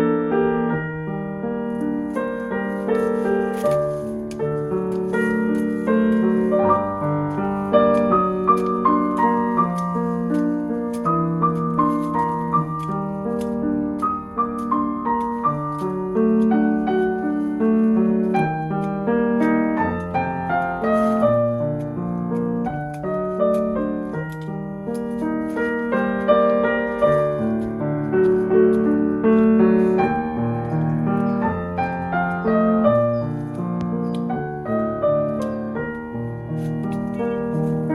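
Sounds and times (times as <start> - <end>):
gentle piano music: 0.0 - 37.9.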